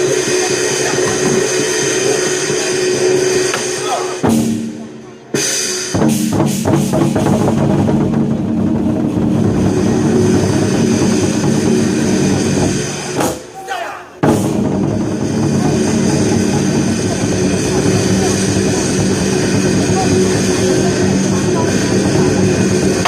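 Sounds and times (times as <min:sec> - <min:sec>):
drum troupe playing war drums: 0:00.0 - 0:23.0.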